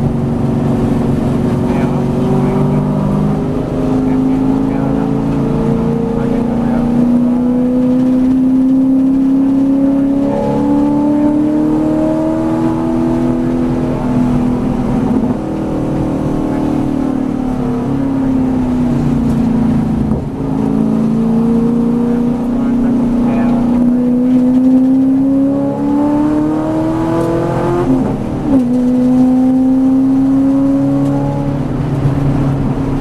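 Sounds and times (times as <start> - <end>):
racing car engine accelerating: 0.0 - 33.0.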